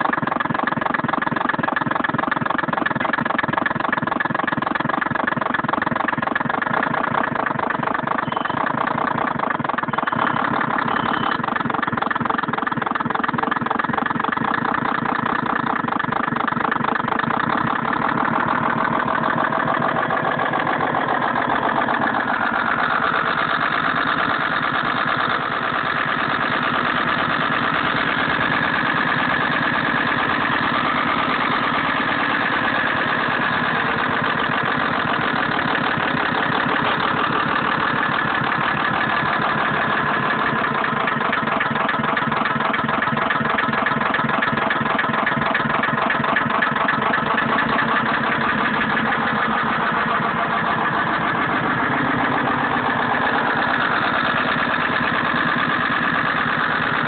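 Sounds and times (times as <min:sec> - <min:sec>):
simulated truck engine sound: 0:00.0 - 0:57.0.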